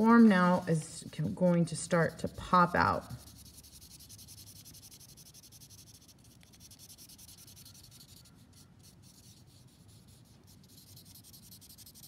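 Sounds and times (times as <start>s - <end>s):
charcoal scratching on paper: 0.0s - 12.0s.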